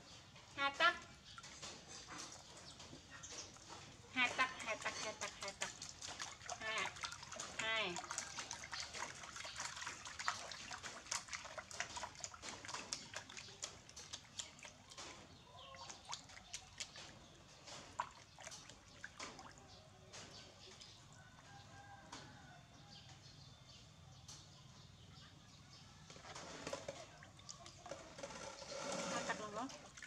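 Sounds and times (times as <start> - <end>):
water splashing in plastic basin: 0.8 - 21.2, 26.1 - 30.0.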